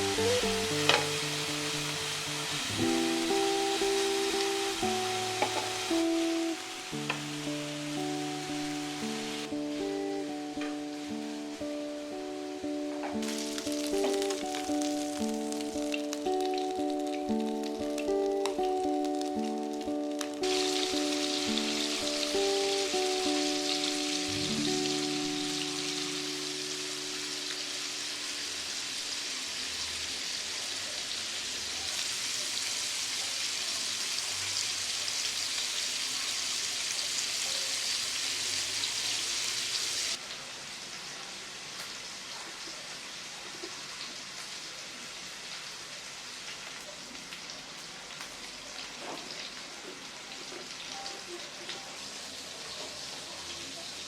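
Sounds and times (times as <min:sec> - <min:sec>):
oil sizzling in a frying pan: 0:00.0 - 0:54.0.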